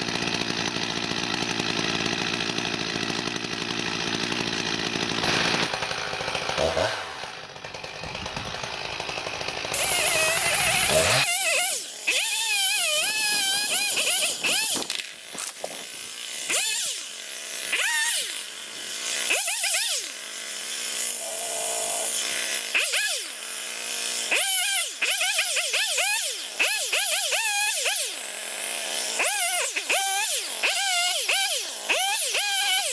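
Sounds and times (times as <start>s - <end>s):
chainsaw running close: 0.0s - 32.9s
distant chainsaw revving: 0.0s - 32.9s.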